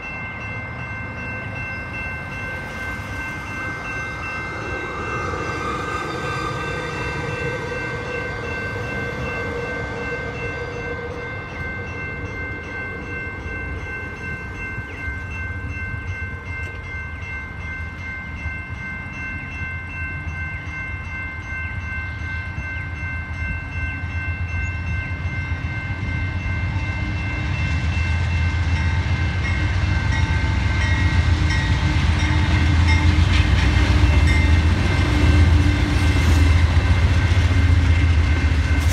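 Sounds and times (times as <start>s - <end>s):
diesel locomotive rumble: 0.0s - 38.9s
railroad crossing bell ringing: 0.0s - 38.9s.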